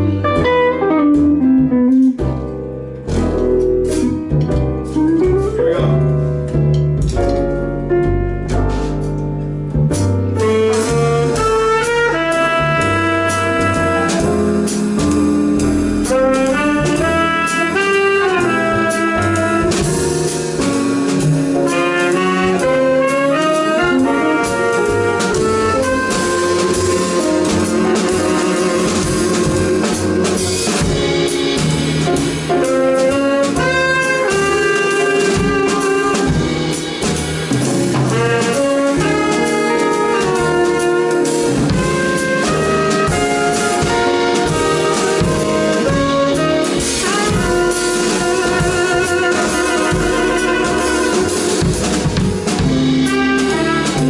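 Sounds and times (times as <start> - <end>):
horn melody: 0.0 - 2.2, 10.3 - 54.0
drum kit: 0.0 - 54.0
low bass line: 0.0 - 54.0.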